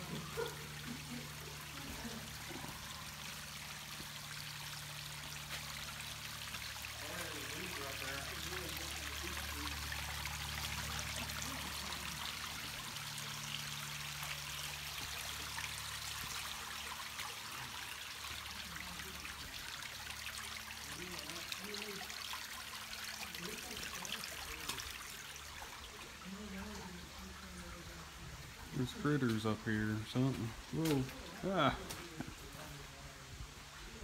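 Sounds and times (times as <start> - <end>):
creek water trickling over rocks: 0.0 - 34.0.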